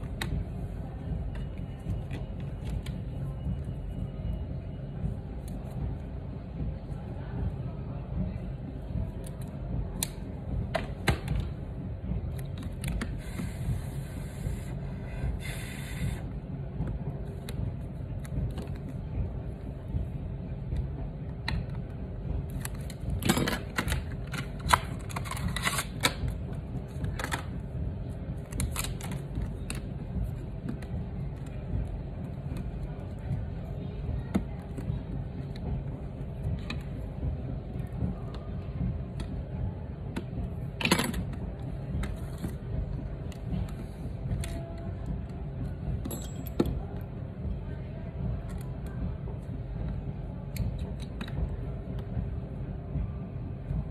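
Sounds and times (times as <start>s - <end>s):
low room hum: 0.0s - 53.9s.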